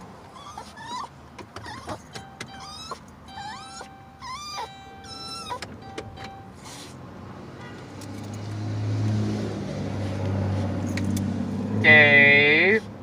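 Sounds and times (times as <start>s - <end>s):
van engine and road drone: 0.0s - 13.0s.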